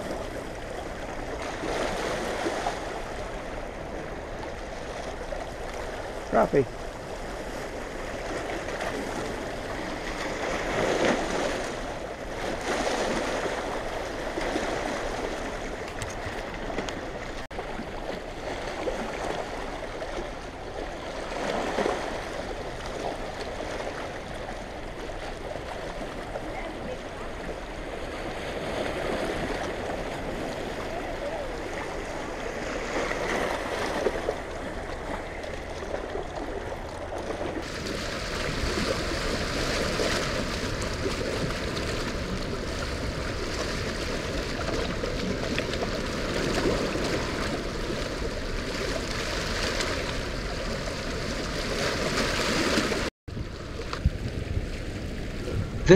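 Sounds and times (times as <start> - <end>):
rushing churning water: 0.0 - 55.9.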